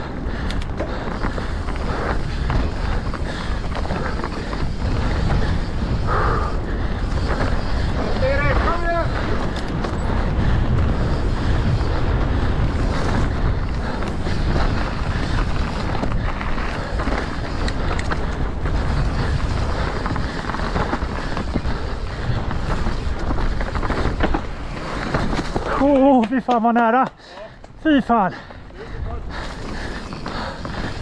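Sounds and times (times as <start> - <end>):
wind rushing over microphone: 0.0 - 26.4
mountain bike rattling: 0.0 - 31.0.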